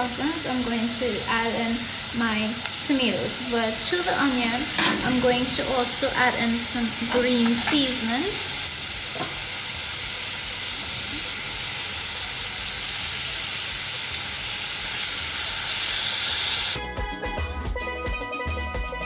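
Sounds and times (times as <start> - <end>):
onions sizzling in oil: 0.0 - 16.8.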